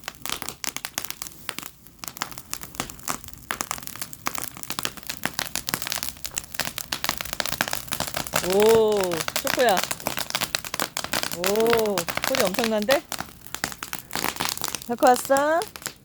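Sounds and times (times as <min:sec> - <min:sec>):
bonfire crackling and popping: 0:00.0 - 0:16.0.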